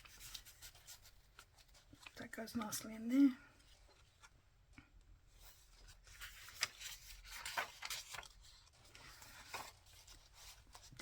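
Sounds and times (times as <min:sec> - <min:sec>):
paper and card rustling: 0:00.0 - 0:11.0.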